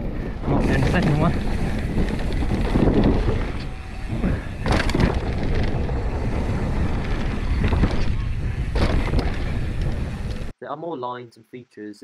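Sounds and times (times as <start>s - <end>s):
bike rattling on rough ground: 0.0s - 10.5s
wind buffeting microphone: 0.0s - 10.5s.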